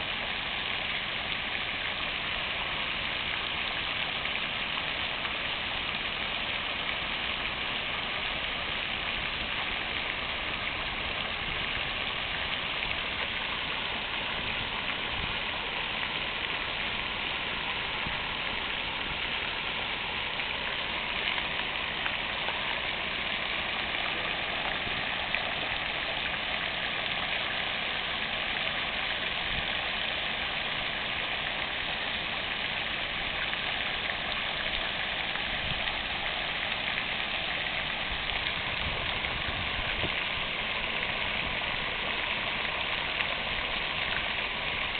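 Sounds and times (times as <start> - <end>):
fountain water splashing: 0.0 - 44.9.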